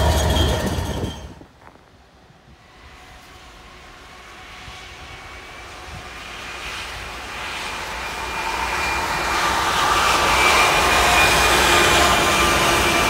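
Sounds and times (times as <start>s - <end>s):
diesel locomotives passing: 0.0s - 13.0s.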